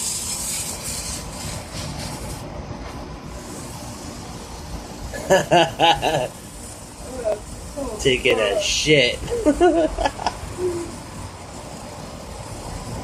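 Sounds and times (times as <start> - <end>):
firework hissing: 0.0 - 13.0
steady low rumble: 1.3 - 13.0.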